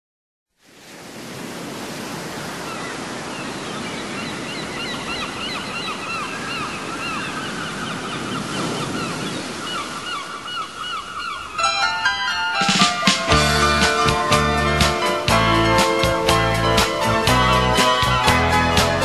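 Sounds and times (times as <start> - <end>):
ocean surf washing: 0.6 - 19.0
birds chirping: 2.1 - 18.4.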